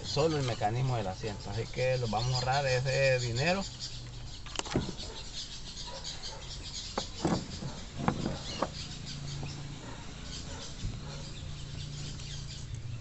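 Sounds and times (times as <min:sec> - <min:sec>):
insects and birds chirping: 0:00.0 - 0:13.0.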